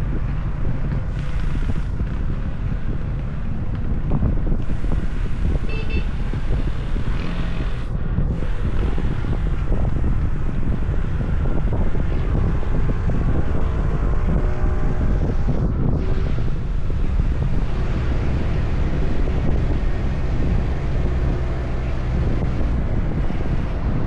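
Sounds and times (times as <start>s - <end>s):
low rumble of engine and road: 0.0s - 24.0s
wind buffeting microphone: 0.0s - 24.0s.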